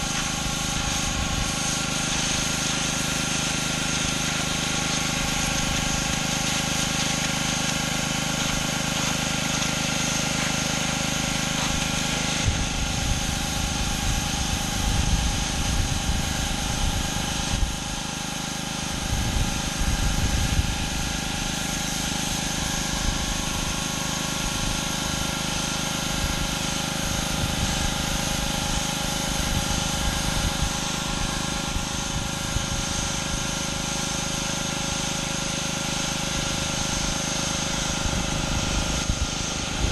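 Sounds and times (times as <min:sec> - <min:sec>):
high-pressure water spray hissing: 0:00.0 - 0:39.9
pressure washer engine running: 0:00.0 - 0:39.9.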